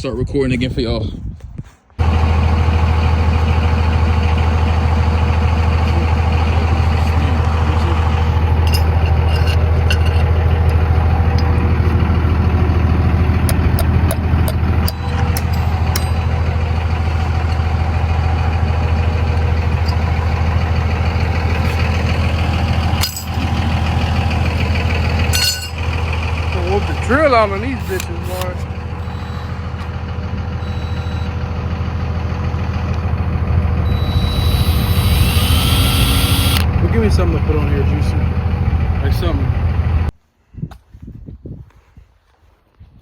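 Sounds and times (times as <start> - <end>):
vehicle engine idling: 2.0 - 40.1.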